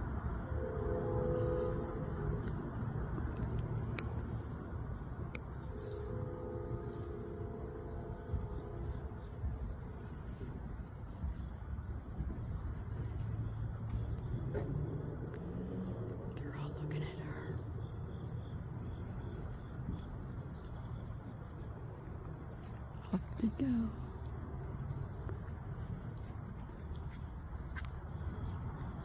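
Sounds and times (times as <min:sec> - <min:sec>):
low rumble: 0:00.0 - 0:26.1
insect chorus trilling: 0:00.0 - 0:29.0.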